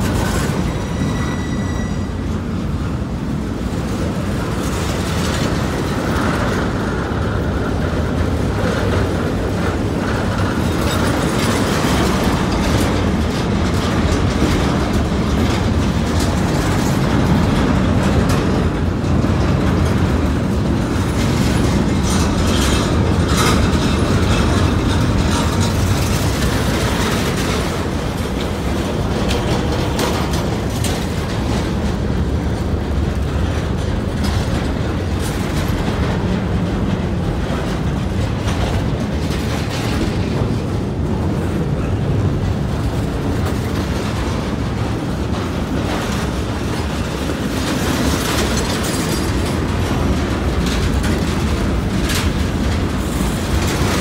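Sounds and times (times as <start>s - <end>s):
clanks from wheels and couplings: 0.0s - 54.0s
steel wheels rumbling on rail: 0.0s - 54.0s.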